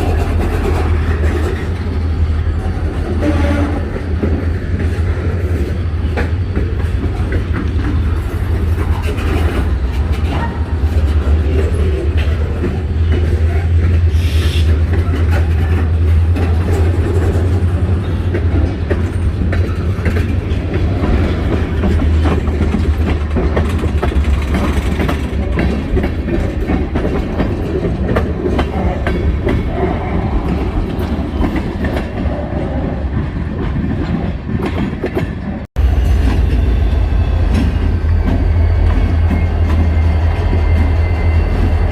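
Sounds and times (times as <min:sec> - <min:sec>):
wheels clicking over rail joints: 0:00.0 - 0:36.6
freight train rumble: 0:00.0 - 0:41.9.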